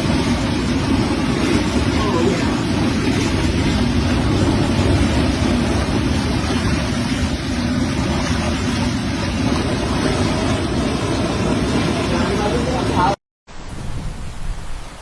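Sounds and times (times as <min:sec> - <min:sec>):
wind noise on microphone: 0:00.0 - 0:12.8, 0:13.5 - 0:15.0
floodwater rushing: 0:00.0 - 0:15.0.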